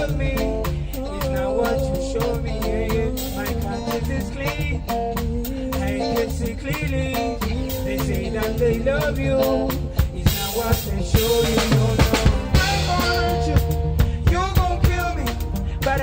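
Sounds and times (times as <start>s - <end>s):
live band playing: 0.0s - 16.0s
male voices singing: 0.0s - 16.0s.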